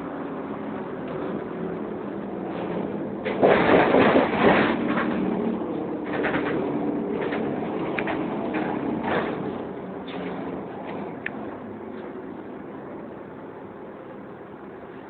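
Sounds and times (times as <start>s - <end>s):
bus differential whining: 0.0s - 15.0s.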